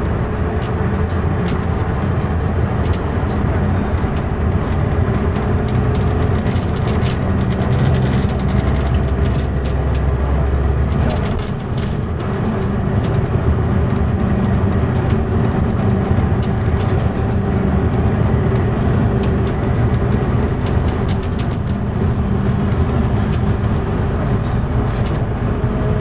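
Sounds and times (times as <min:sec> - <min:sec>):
bus engine drone: 0:00.0 - 0:26.0
light rattles and clicks: 0:00.0 - 0:26.0
road noise: 0:00.0 - 0:26.0.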